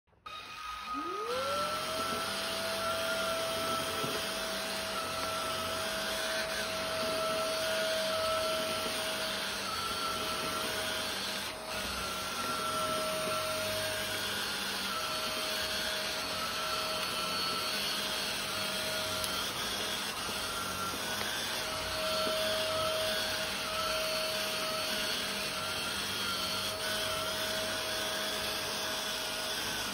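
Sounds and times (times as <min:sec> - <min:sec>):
vacuum motor whine: 0:00.2 - 0:29.9.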